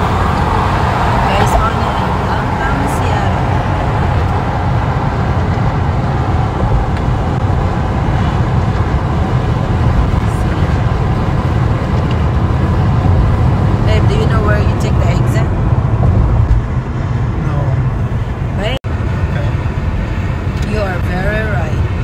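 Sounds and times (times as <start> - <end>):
car road noise: 0.0 - 22.0.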